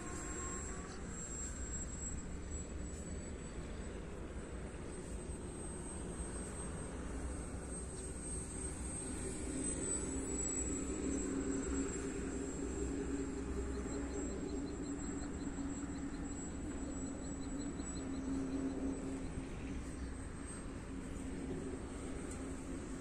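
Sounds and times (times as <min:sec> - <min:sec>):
model plane propeller droning: 0:00.0 - 0:23.0.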